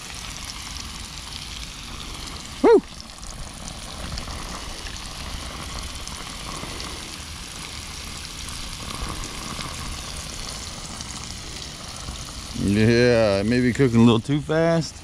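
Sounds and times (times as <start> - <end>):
fish deep-frying in hot oil: 0.0 - 15.0.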